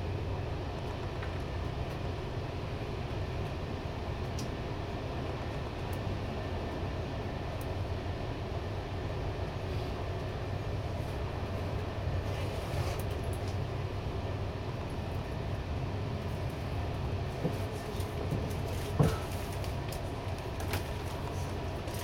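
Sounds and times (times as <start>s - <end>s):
diesel locomotive drone: 0.0s - 22.0s
wheels rumbling on rail: 0.0s - 22.0s.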